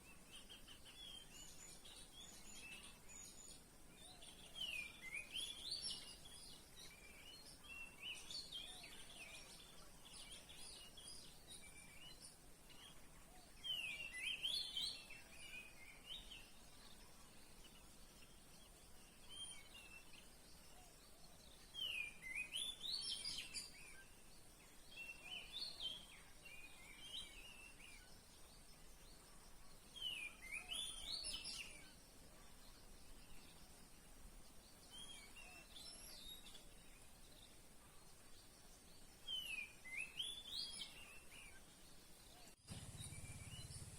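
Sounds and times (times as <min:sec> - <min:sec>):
faint high-pitched hiss: 0:00.0 - 0:43.9
songbird singing: 0:00.0 - 0:43.9.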